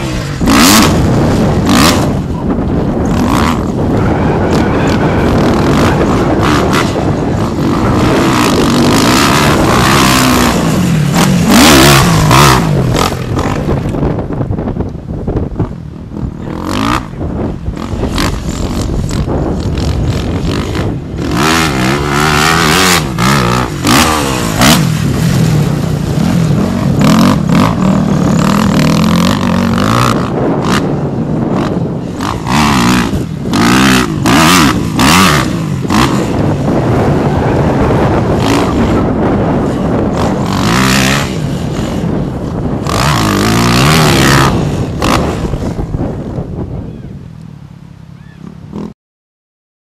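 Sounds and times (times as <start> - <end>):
motocross bike engine revving: 0.0 - 14.4, 15.4 - 46.4.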